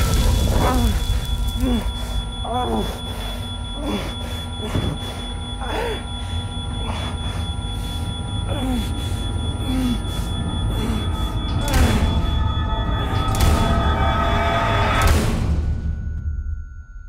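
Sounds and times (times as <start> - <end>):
high ringing tone: 0.0 - 15.0, 15.8 - 17.0
low rumble: 0.0 - 16.5.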